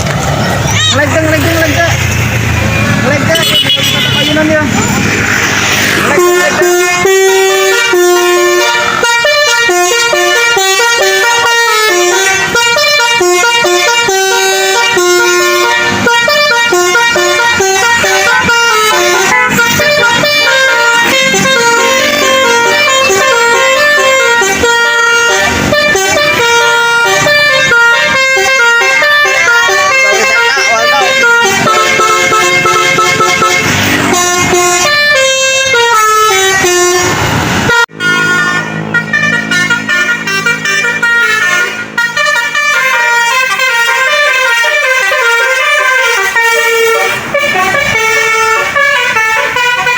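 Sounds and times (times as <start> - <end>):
musical bus horn melody: 0.9 - 4.8, 5.4 - 49.9.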